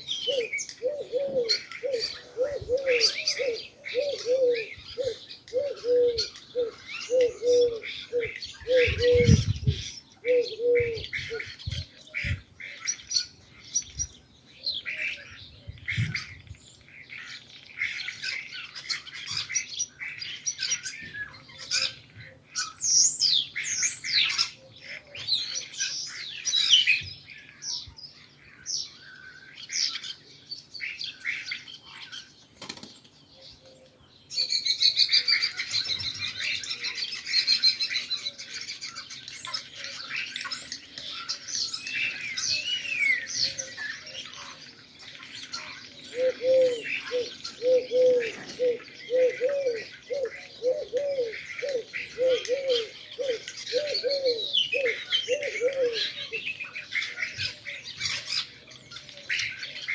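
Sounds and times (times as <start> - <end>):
low bird coo: 0.0 - 13.0, 14.0 - 16.6, 20.2 - 27.2, 31.3 - 59.9
small birds chirping: 0.0 - 59.9.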